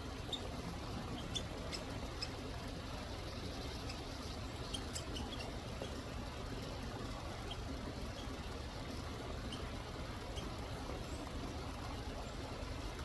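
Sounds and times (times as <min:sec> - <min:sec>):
small birds chirping: 0:00.0 - 0:06.2, 0:07.3 - 0:12.8
low background rumble: 0:00.0 - 0:13.0.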